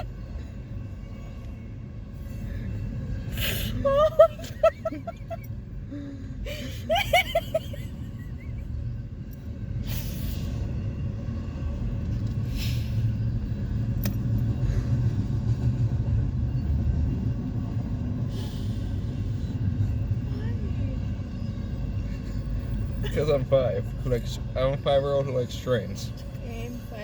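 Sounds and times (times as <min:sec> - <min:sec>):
passing train rumble: 0:00.0 - 0:27.0.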